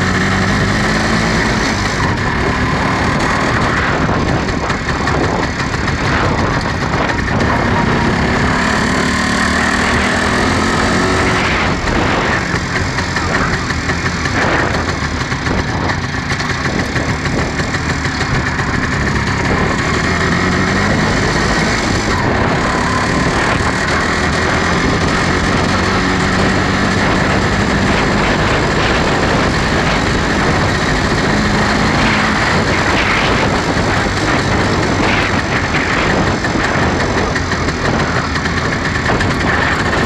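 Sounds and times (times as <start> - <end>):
two-stroke motorcycle engine: 0.0 - 40.0.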